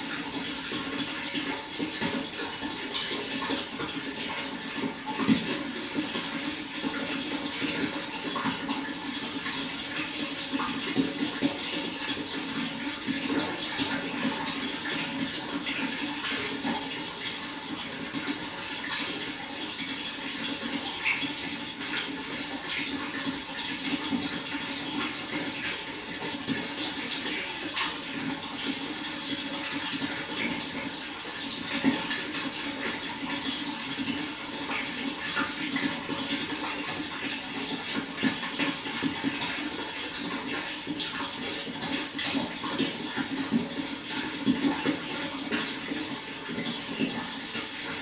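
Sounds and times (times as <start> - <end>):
water flowing and splashing: 0.0 - 48.0.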